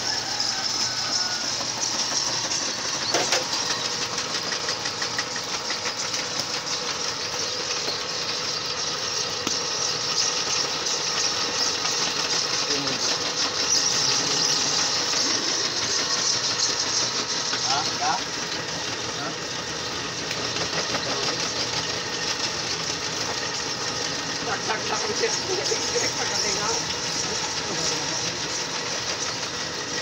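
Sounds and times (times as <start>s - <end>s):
clay mixing machine rattling: 0.0s - 30.0s.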